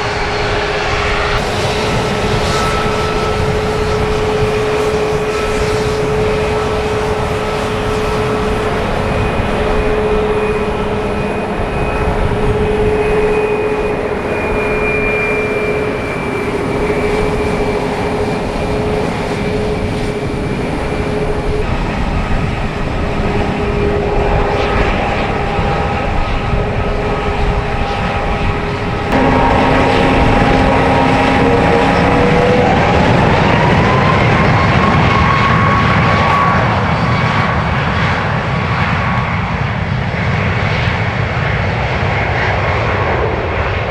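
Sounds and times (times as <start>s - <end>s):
jet engine roar with whine: 0.0s - 43.9s.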